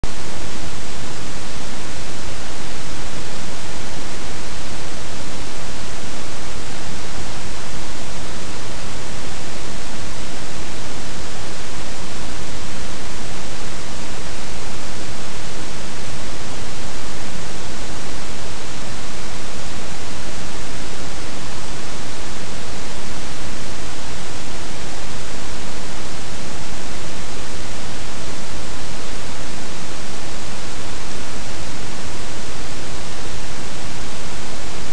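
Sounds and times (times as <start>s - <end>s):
loud steady hiss: 0.1s - 34.9s.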